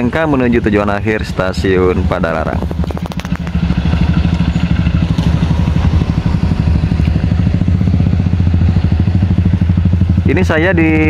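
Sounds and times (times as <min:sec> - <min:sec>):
motorcycle passing by: 0:01.5 - 0:11.0.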